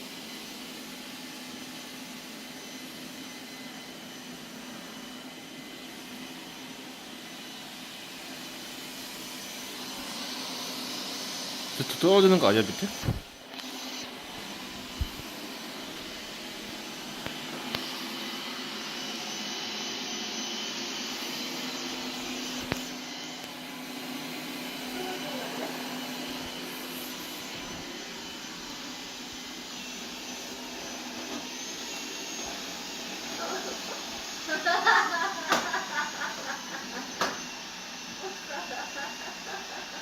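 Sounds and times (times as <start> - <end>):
robot vacuum whirring: 0.2 - 40.0.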